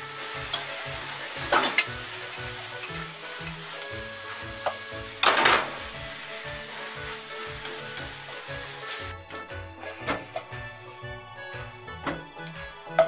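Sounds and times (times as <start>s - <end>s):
stir-fry sizzling in a pan: 0.0s - 10.7s.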